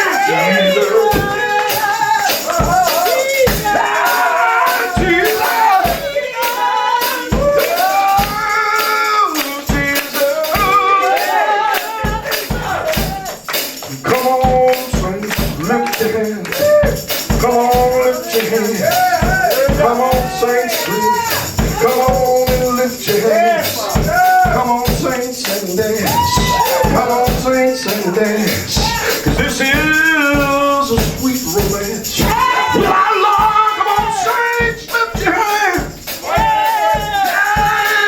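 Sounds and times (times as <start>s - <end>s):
tambourine shaking: 0.0s - 38.0s
voices singing gospel: 0.0s - 38.0s.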